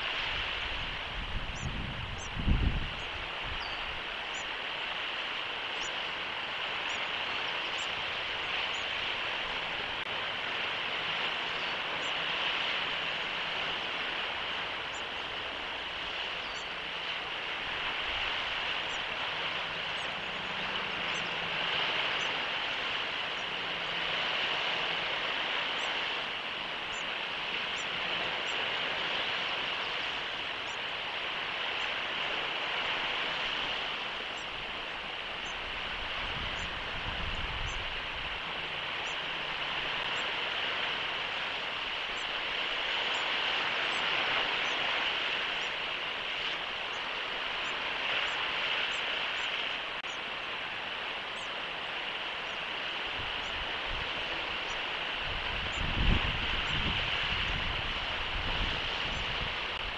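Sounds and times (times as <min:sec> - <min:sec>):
open-air hiss: 0:00.0 - 0:59.9.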